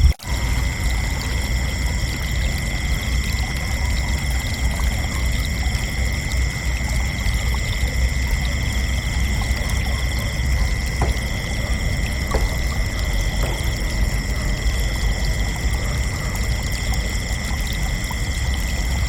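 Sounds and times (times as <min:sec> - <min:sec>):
crickets chirping: 0:00.0 - 0:19.0
steady low rumbling noise: 0:00.0 - 0:19.0.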